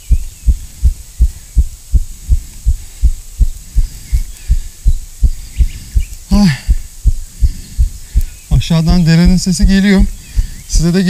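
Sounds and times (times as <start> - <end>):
heartbeat thumps: 0.0 - 11.0.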